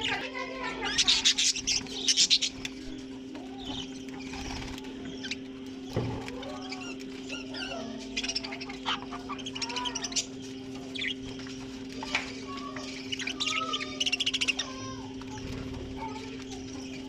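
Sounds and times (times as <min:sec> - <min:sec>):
budgerigars chattering: 0:00.0 - 0:17.0
steady low hum: 0:00.0 - 0:17.0.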